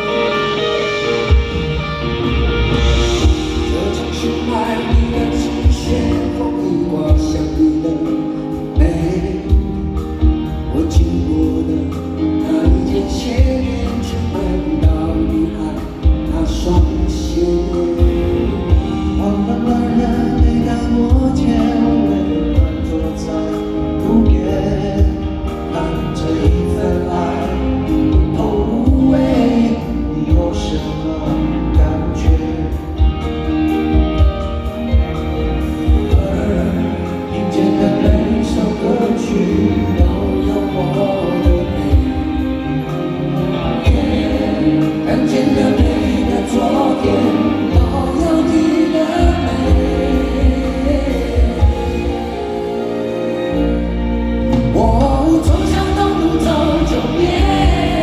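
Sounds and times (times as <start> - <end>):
crowd singing together: 0.0 - 58.0
live band playing a ballad: 0.0 - 58.0
steady drum beat: 1.2 - 53.7, 54.5 - 58.0.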